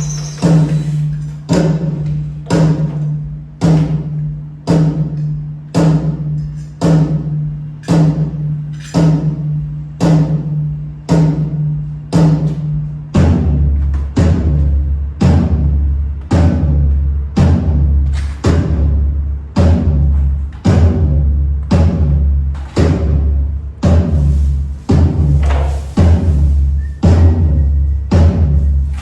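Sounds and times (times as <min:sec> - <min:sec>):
deep bass: 0:00.0 - 0:29.0
heavy drum hits: 0:00.0 - 0:29.0.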